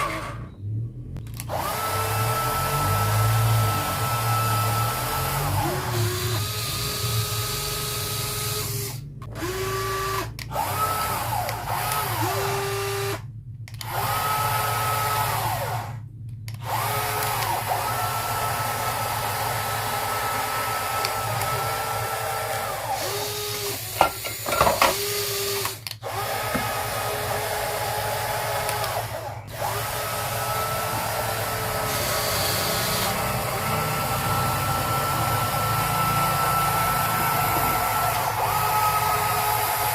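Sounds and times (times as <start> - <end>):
small electric motors whining: 1.3 - 16.0, 16.6 - 39.9.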